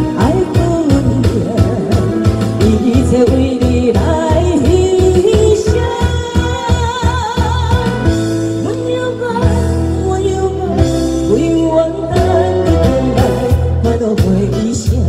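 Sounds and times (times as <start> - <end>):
slow karaoke backing track: 0.0 - 15.0.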